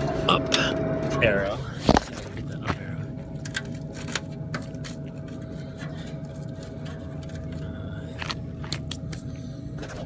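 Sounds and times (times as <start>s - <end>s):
exhaust fan humming and whining: 0.0s - 10.0s.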